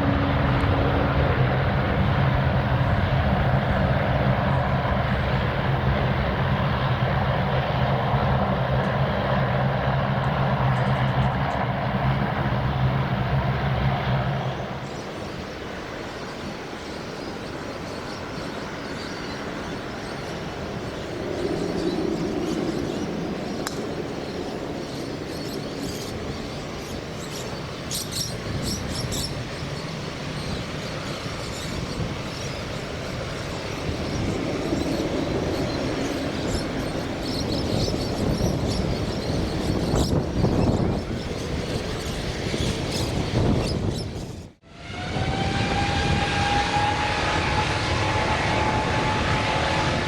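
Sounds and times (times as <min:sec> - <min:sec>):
jet engines at takeoff: 0:00.0 - 0:50.0.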